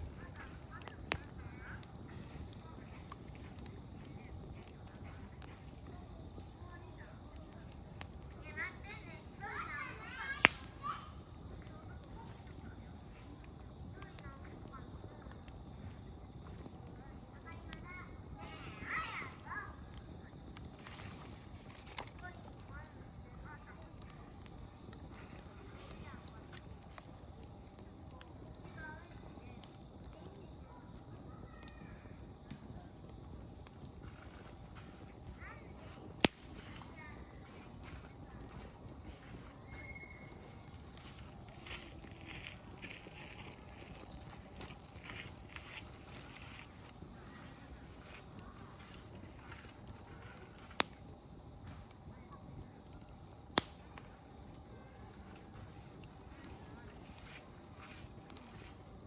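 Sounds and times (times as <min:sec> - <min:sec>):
firewood crackling pops: 0:00.0 - 0:57.3
campfire burning: 0:00.0 - 0:59.0
crickets chirping: 0:00.0 - 0:59.0
faint distant voices: 0:00.0 - 0:59.0.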